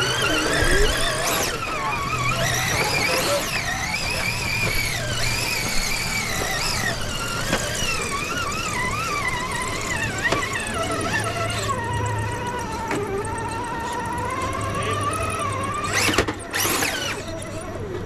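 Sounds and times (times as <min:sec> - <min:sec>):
rc truck motor whine: 0:00.0 - 0:18.0.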